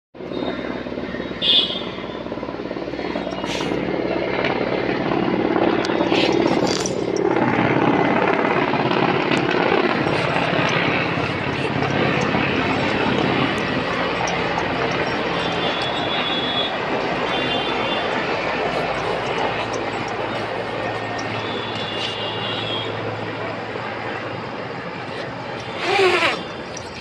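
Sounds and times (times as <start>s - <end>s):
helicopter rotor chopping: 0.2s - 27.0s
turbine engine whine: 0.2s - 27.0s.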